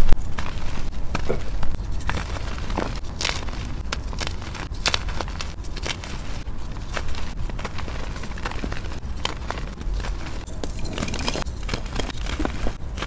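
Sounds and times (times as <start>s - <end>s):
chalk crunching and crumbling: 0.1s - 13.0s.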